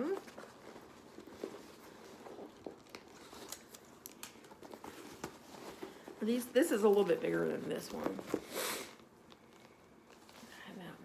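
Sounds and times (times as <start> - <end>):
fabric and packaging rustling: 0.0 - 11.0.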